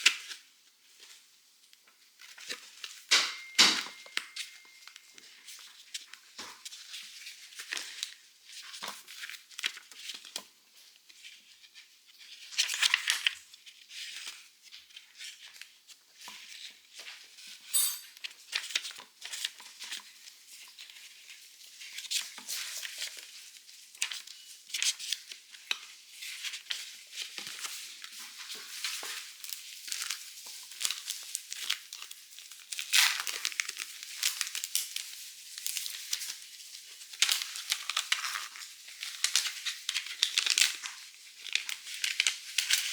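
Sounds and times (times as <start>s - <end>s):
packaging crinkling and rustling: 2.2s - 17.6s, 18.2s - 42.9s.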